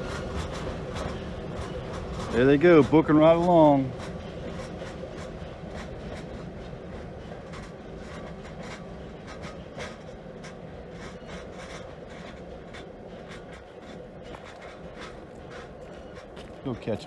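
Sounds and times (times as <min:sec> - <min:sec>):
freight train rumbling: 0:00.0 - 0:17.0
wheels clicking on rails: 0:00.0 - 0:17.0.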